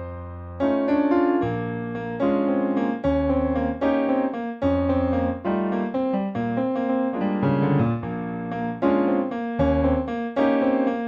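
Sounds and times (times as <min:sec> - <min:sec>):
solo piano chords: 0:00.0 - 0:11.0.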